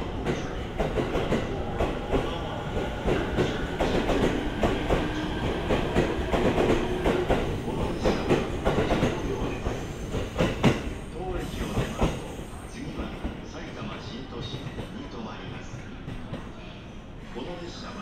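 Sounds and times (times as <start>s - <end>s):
train rumble: 0.0s - 16.6s.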